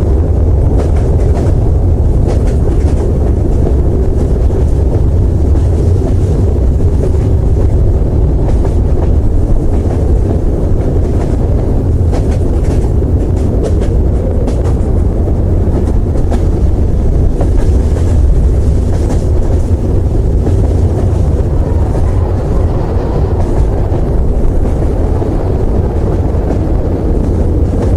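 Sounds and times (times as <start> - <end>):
train rumbling on track: 0.0 - 27.9.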